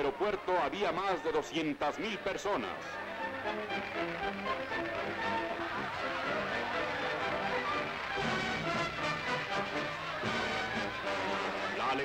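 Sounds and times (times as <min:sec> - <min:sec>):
instrumental background music: 0:02.1 - 0:12.0.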